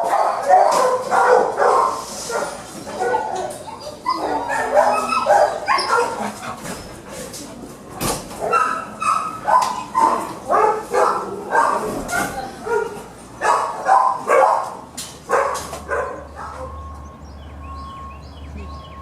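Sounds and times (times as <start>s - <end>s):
dogs barking: 0.0s - 7.6s, 8.2s - 17.0s.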